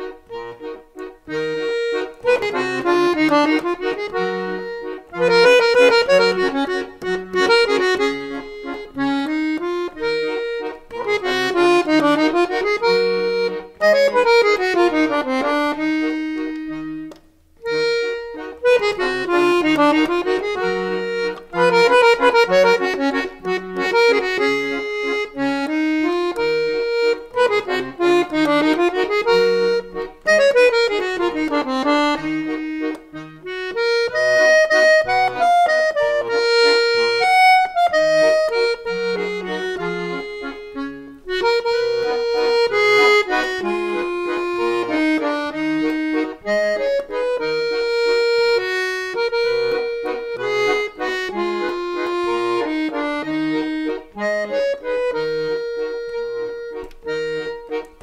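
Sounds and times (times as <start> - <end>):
accordion melody: 0.0 - 58.0
repeated bass notes: 0.0 - 58.0.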